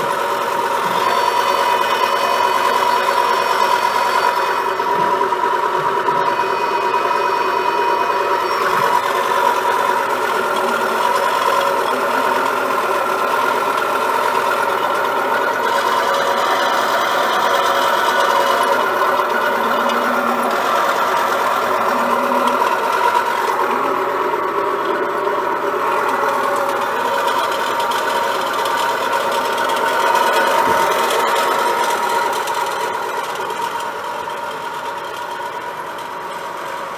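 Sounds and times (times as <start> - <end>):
drill machine humming and whining: 0.0 - 36.9.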